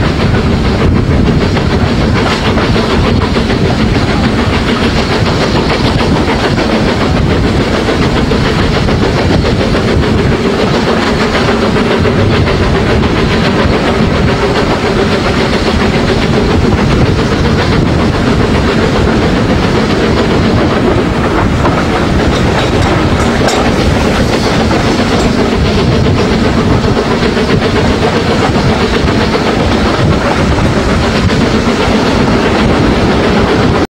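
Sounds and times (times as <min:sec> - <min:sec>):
steam hissing: 0:00.0 - 0:33.9
train wheels clattering on rails: 0:00.0 - 0:33.9.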